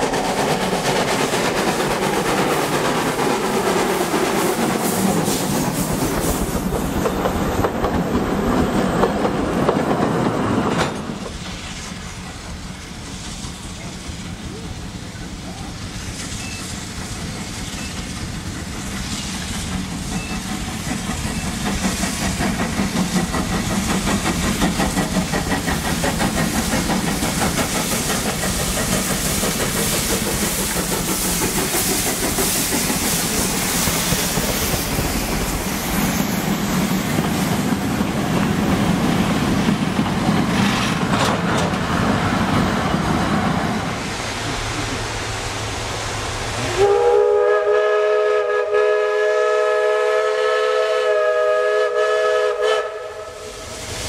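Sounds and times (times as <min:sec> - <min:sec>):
steam hiss: 0:00.0 - 0:09.6, 0:10.3 - 0:54.0
train wheels on rail: 0:00.0 - 0:54.0.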